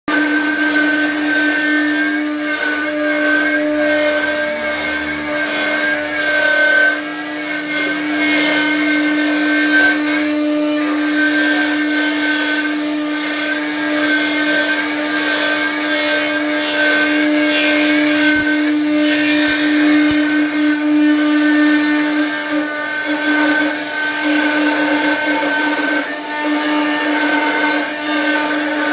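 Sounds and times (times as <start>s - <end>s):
router spindle whine carving wood: 0.1s - 28.9s.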